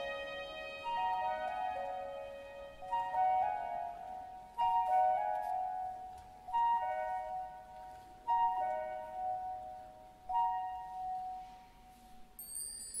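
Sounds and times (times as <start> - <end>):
slow keyboard chords: 0.0 - 13.0.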